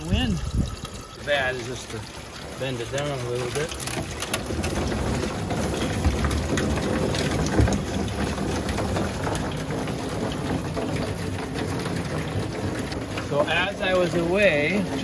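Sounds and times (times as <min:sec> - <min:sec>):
water pouring into tank: 0:00.0 - 0:15.0
knocks on metal downspout: 0:02.3 - 0:15.0.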